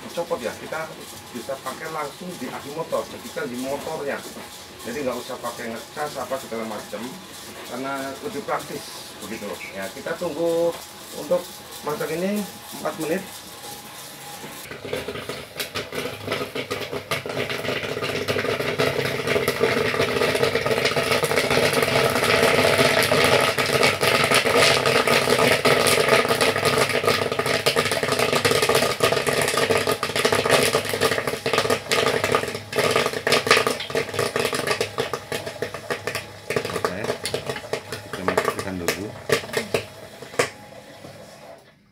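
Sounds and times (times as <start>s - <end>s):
corn popping: 0.0s - 41.9s
stirring motor hum: 0.0s - 41.9s.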